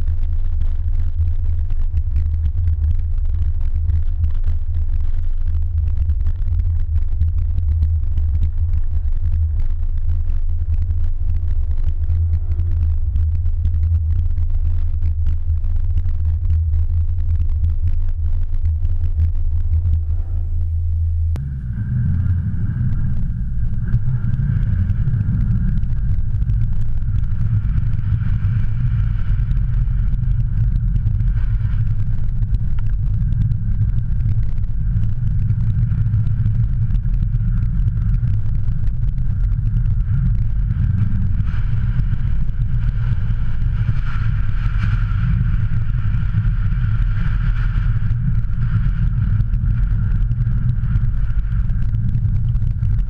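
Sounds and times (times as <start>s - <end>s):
high steady hum: 0.0s - 53.0s
low rumble of wind tyres and engine: 0.0s - 53.0s.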